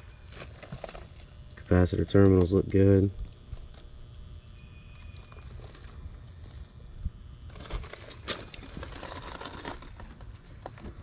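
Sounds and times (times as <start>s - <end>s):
rustling crinkling handling noise: 0.0s - 3.9s, 4.9s - 11.0s.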